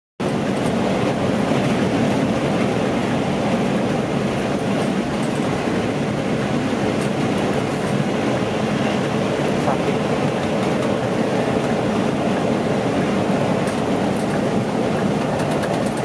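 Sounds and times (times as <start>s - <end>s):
coach road and engine rumble: 0.2s - 16.0s.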